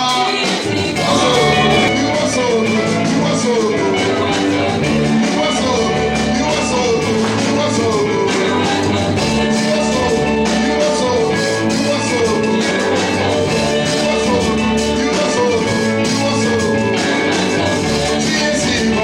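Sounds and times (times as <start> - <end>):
upbeat music with singing: 0.0 - 19.0.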